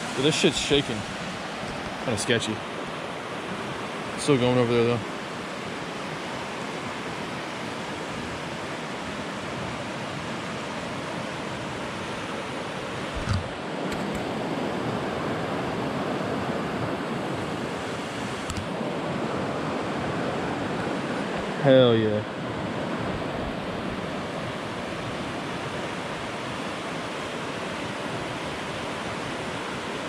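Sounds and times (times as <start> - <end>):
fast-flowing creek water: 0.0 - 30.0.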